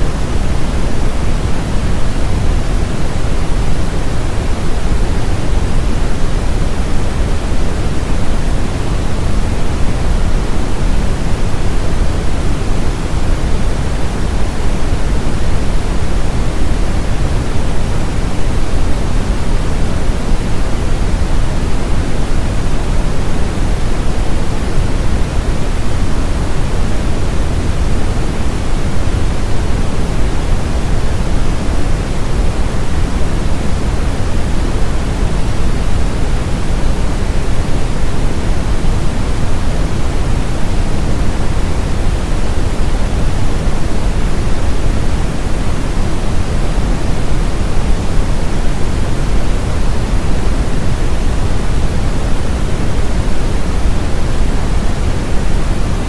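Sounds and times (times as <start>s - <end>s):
brown noise rushing hiss: 0.0s - 56.0s.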